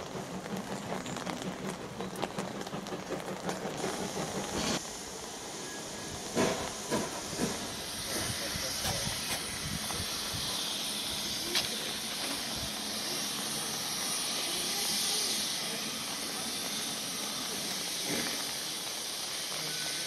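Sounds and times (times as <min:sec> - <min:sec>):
steam locomotive venting steam: 0:00.0 - 0:20.0.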